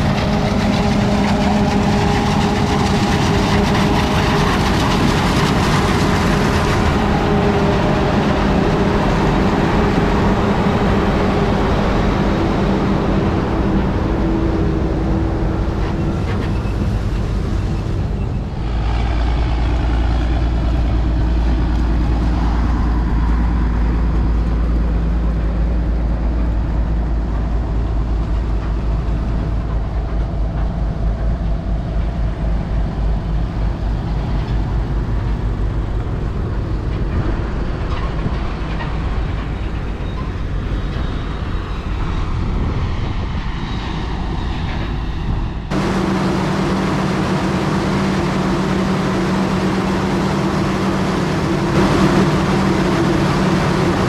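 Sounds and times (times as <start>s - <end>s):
tractor diesel engines droning: 0.0s - 54.0s.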